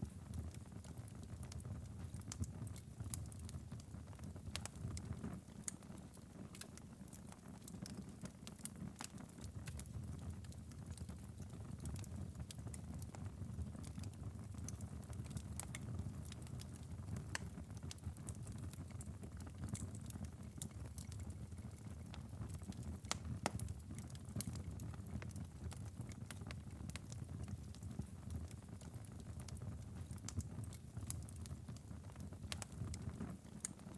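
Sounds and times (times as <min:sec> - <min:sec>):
low rumble of burning: 0:00.0 - 0:33.9
wood fire crackling and popping: 0:00.0 - 0:33.9.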